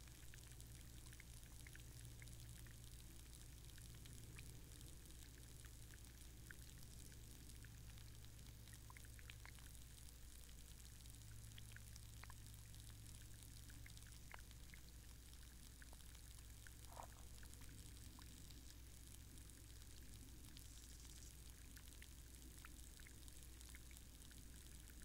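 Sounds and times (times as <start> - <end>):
steady low hum: 0.0 - 25.0
underwater bubbling: 0.0 - 25.0
underwater clicks and ticks: 0.0 - 25.0.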